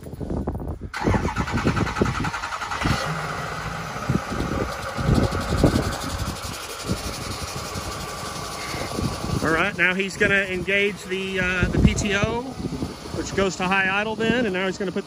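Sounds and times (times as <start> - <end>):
diesel engine starting and idling: 0.9 - 15.0.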